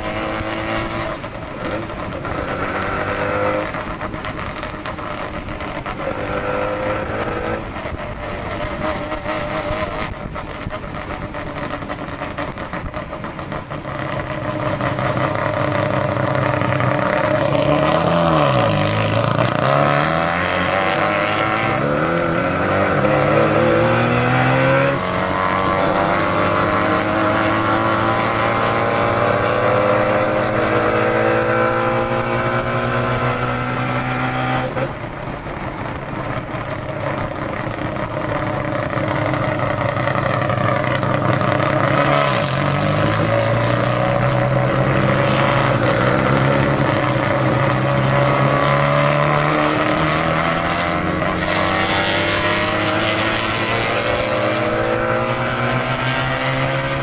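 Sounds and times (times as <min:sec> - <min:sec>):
rotary engine revving under load: 0:00.0 - 0:12.5, 0:14.0 - 0:35.0, 0:37.7 - 0:57.0.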